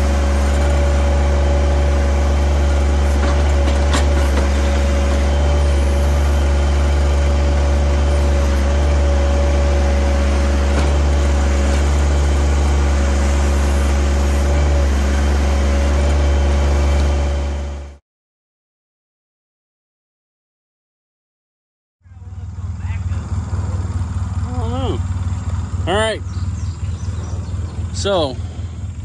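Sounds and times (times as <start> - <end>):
high whine of backhoe: 0.0 - 18.0, 22.0 - 29.0
tractor engine running: 0.0 - 18.0, 22.0 - 29.0.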